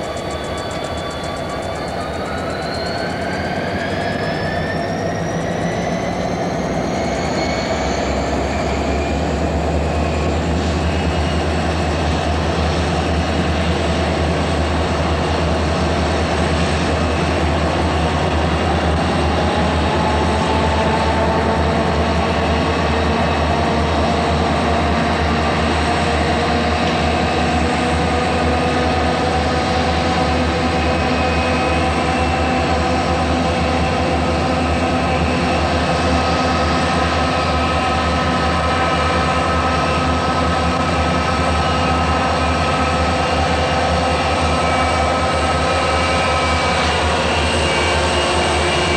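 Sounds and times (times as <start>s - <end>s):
high whines rising in pitch: 0.0s - 48.9s
locomotive drone: 0.0s - 48.9s.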